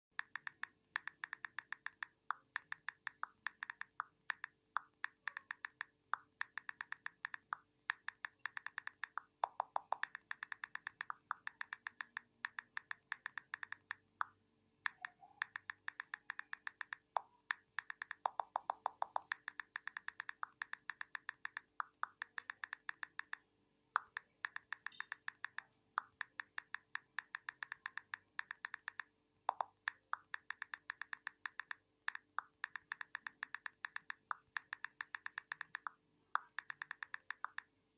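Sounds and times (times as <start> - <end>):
phone keyboard clicks: 0.2 - 23.4, 24.0 - 37.7.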